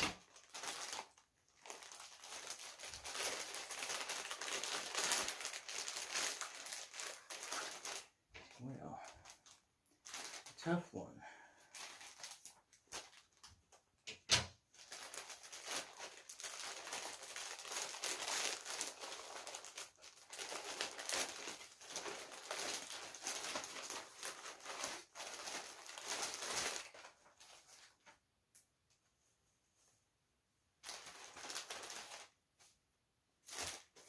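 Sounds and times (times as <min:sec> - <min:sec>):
plastic bag crinkling: 0:00.0 - 0:10.8, 0:11.6 - 0:13.8, 0:14.7 - 0:28.1, 0:30.8 - 0:32.4, 0:33.4 - 0:34.0.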